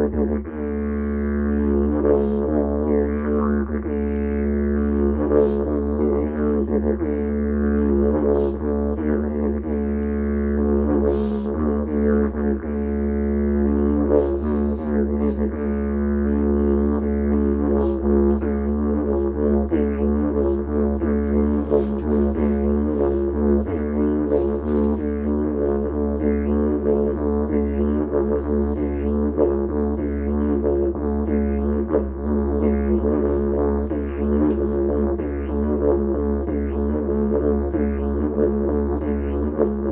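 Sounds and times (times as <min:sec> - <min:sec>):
didgeridoo drone: 0:00.0 - 0:39.9.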